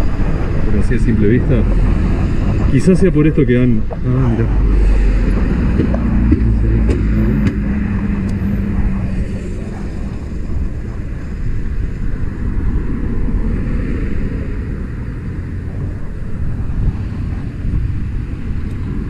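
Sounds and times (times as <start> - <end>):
motor running with low rumble: 0.0 - 19.0
steady hum: 0.0 - 19.0.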